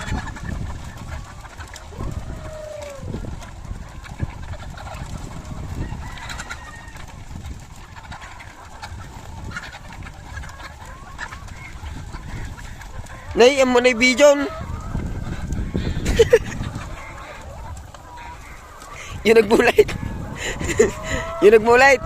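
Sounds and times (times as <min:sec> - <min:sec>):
chickens clucking: 0:00.0 - 0:22.0
drawn-out falling chicken call: 0:00.0 - 0:22.0.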